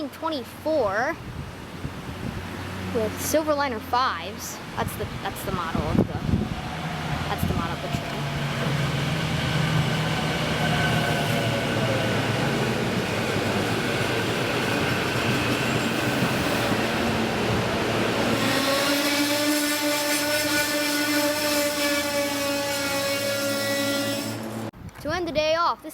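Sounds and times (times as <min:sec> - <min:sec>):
train wheels rumbling on rail: 0:01.1 - 0:24.7.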